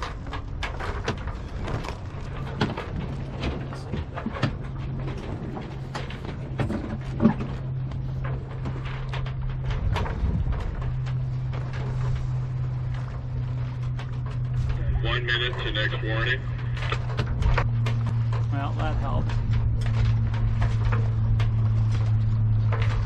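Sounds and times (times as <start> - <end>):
rumble of wind and water: 0.0 - 23.0
sails flogging: 0.0 - 23.0
steady low hum: 0.0 - 23.0.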